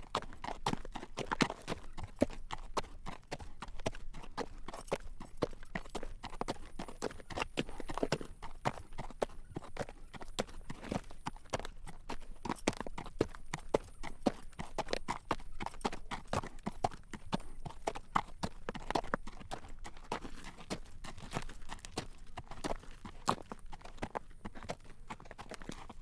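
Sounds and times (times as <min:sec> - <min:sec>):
horse hooves clip-clopping on road: 0:00.0 - 0:26.0.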